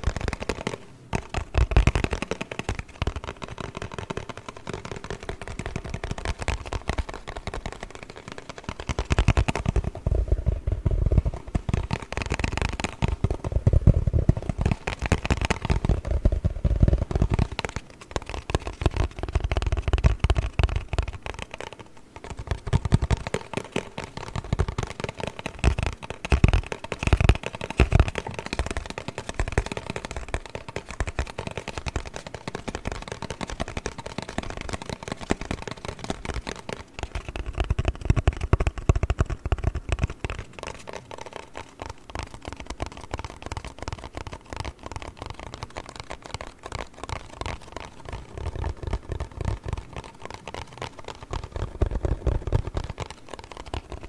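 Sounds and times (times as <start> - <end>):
tapping and scratching on cardboard: 0.0 - 54.0.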